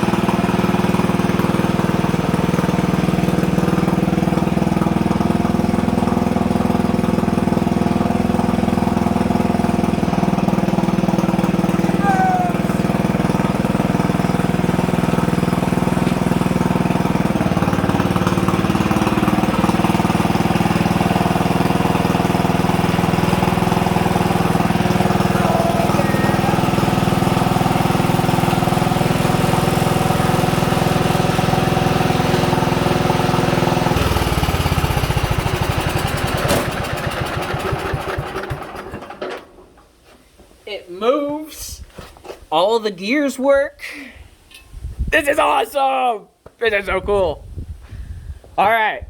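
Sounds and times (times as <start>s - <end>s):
lawn tractor engine running: 0.0s - 39.8s.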